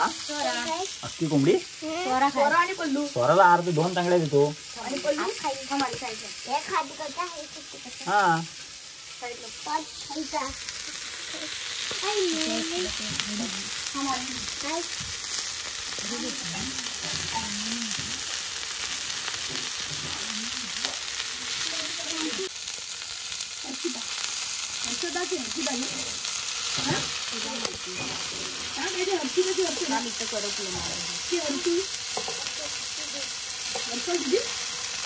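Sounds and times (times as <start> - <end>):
chicken sizzling in hot oil: 0.0 - 35.0.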